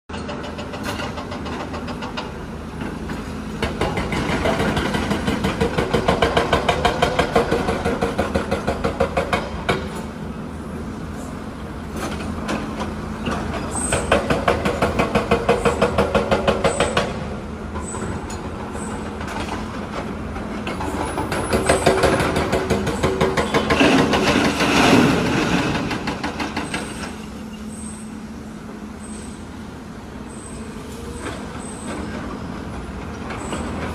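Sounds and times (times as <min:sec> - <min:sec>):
excavator diesel engines running: 0:00.1 - 0:33.9.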